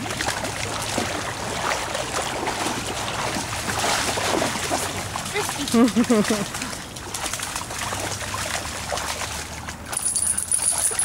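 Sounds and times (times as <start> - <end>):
river water splashing and trickling: 0.0 - 11.0.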